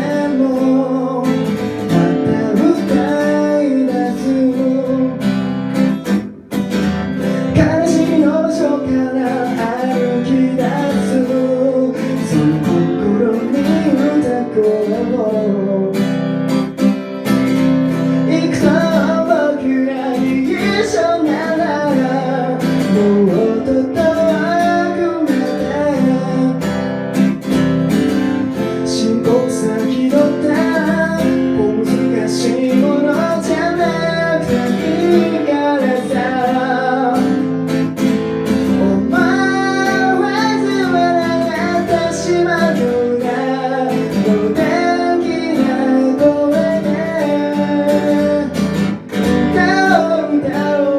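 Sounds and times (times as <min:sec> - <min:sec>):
song with strummed acoustic guitar: 0:00.0 - 0:50.9.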